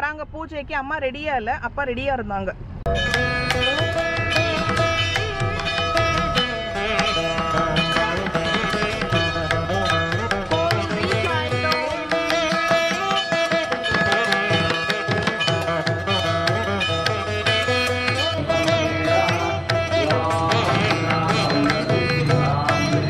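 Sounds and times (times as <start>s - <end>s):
hand drum strokes: 2.9s - 23.0s
plucked strings: 2.9s - 23.0s.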